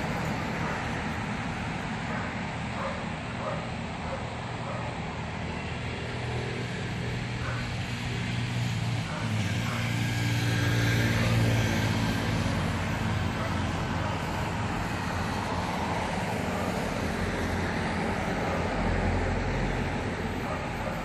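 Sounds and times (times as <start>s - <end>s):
traffic hum: 0.0s - 21.0s
vehicle engine running: 0.0s - 21.0s.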